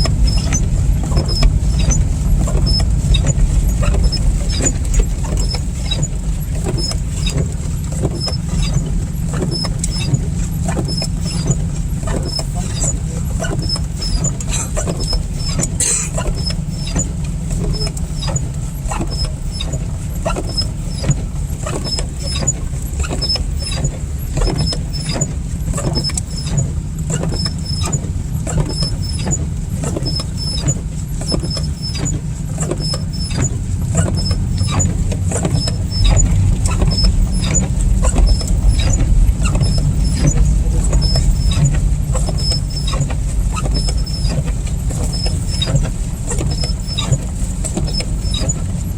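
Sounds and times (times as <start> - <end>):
road and engine rumble: 0.0 - 48.9
windshield wipers squeaking: 0.0 - 48.9.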